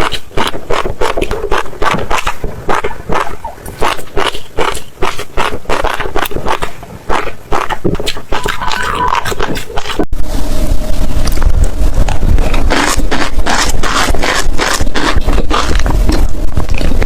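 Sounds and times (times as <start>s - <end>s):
chewing crunchy food: 0.0s - 10.0s, 12.1s - 17.0s.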